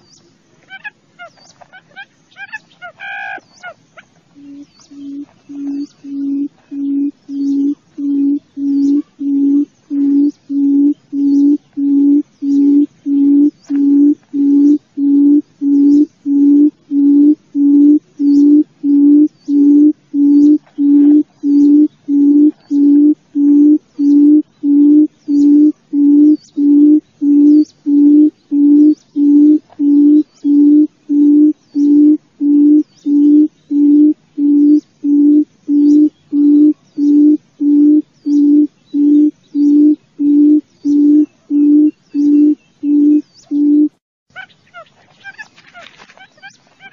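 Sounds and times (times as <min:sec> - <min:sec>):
quail low hooting call: 0:00.7 - 0:46.9.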